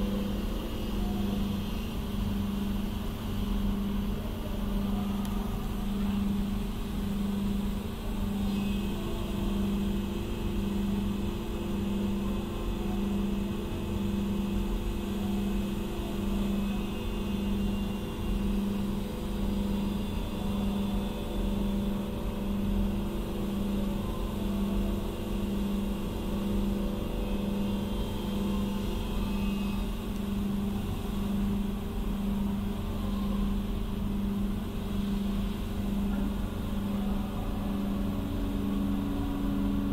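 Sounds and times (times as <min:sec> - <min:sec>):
machine pulsing hum: 0:00.0 - 0:39.9.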